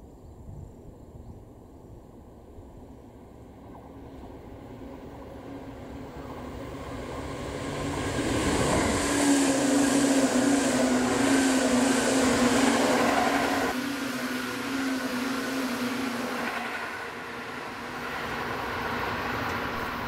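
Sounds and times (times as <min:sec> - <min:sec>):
steady hum: 0:02.8 - 0:20.0
train wheels rumbling on rail: 0:03.2 - 0:20.0.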